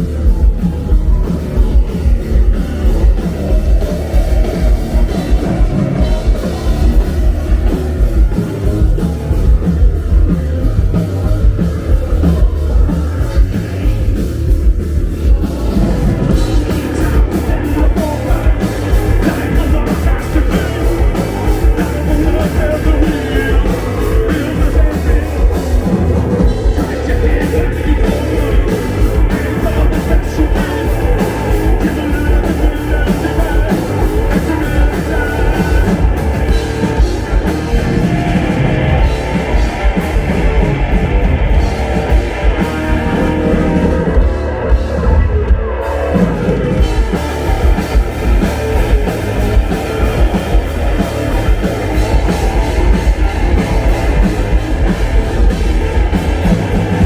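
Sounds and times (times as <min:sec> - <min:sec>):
distorted electric guitar: 0:00.0 - 0:57.0
heavy rock band playing: 0:00.0 - 0:57.0
pounding drum kit: 0:00.0 - 0:57.0.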